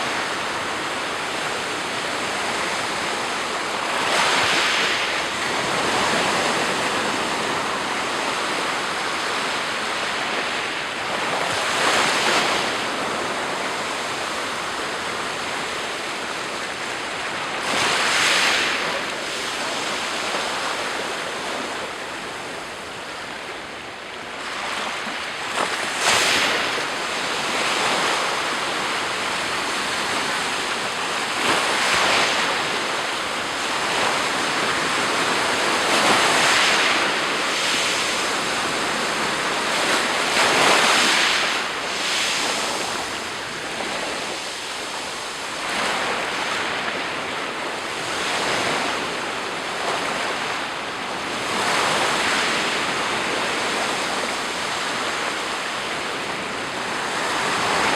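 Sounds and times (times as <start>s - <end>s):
steady wash of water: 0.0s - 57.9s
waves breaking on shore: 0.0s - 57.9s.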